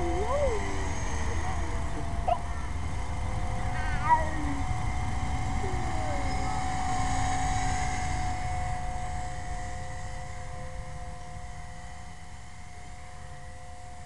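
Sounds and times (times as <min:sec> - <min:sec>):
rc helicopter motor whine: 0:00.0 - 0:14.0.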